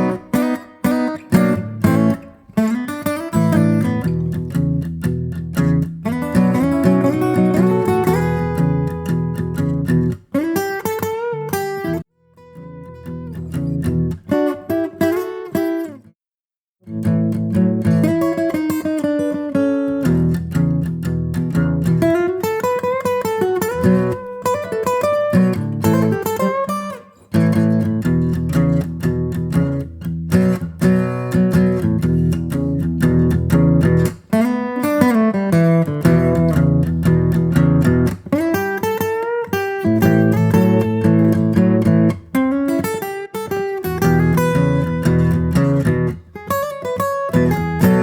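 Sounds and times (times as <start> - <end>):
plucked guitar music: 0.0 - 16.1, 16.8 - 48.0.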